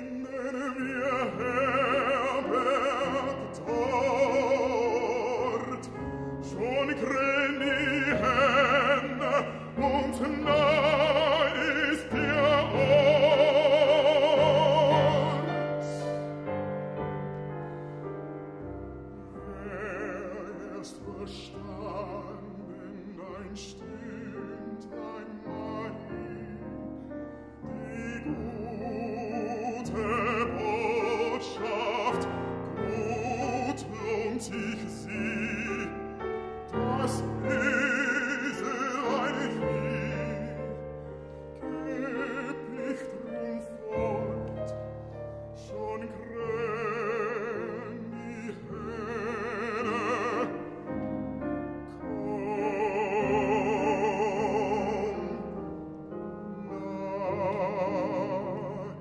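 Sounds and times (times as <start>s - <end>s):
grand piano accompaniment: 0.0s - 59.0s
man singing classical song: 0.0s - 59.0s.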